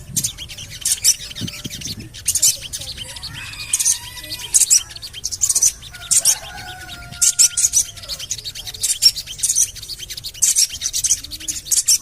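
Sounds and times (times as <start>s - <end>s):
bird chirping sharply: 0.0s - 12.0s.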